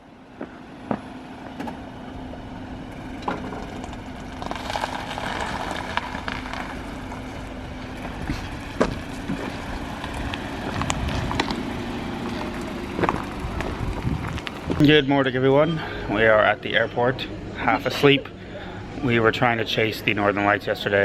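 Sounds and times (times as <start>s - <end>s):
car engine humming: 0.0s - 21.0s
rushing noise of moving car: 0.0s - 21.0s.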